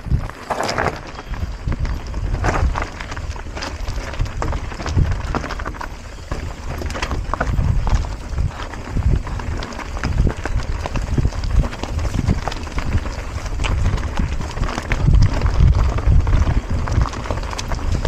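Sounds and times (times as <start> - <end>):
bike rattling over stones: 0.0 - 18.0.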